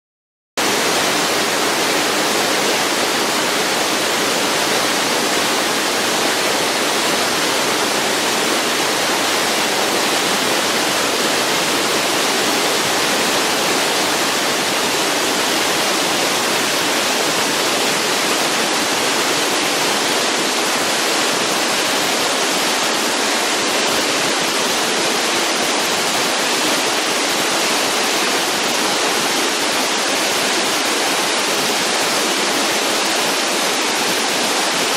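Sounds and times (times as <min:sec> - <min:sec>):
waterfall rushing: 0:00.6 - 0:34.9.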